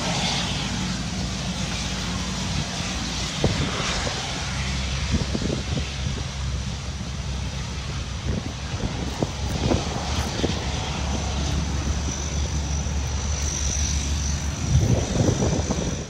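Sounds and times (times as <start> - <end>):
turbine whine: 0.0 - 16.0
turboprop engines droning: 0.0 - 16.0.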